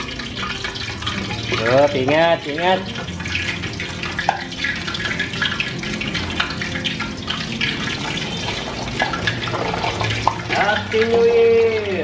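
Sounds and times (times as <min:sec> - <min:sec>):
deep frying sizzle with pops: 0:00.0 - 0:12.0.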